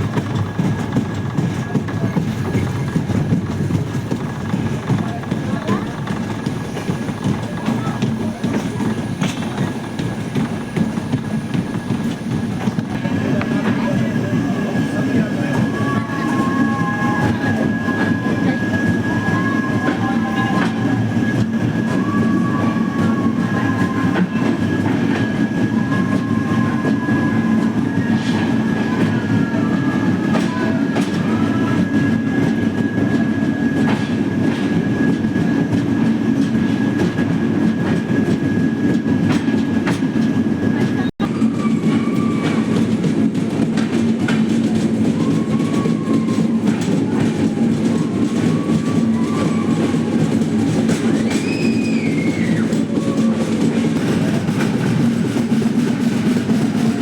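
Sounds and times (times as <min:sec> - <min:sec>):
train running on track: 0:00.0 - 0:57.0.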